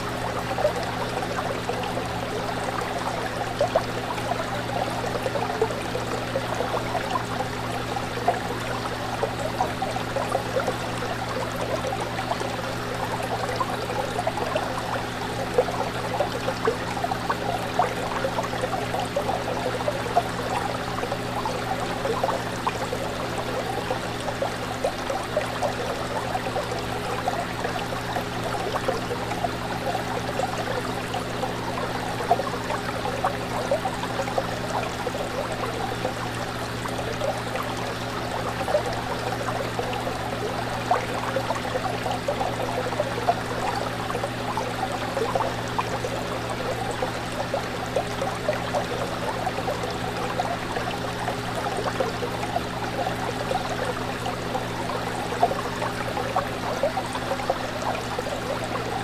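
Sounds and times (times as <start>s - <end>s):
fish tank water bubbling: 0.0s - 59.0s.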